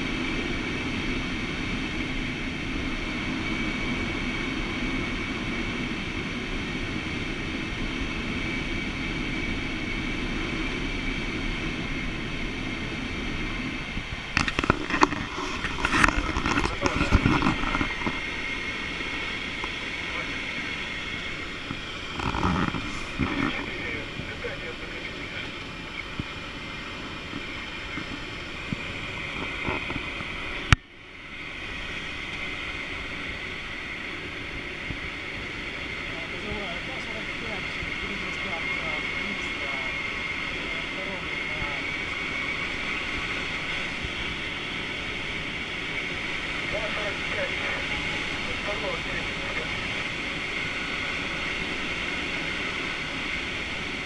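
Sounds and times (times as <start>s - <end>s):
airflow rushing in cockpit: 0.0s - 54.0s.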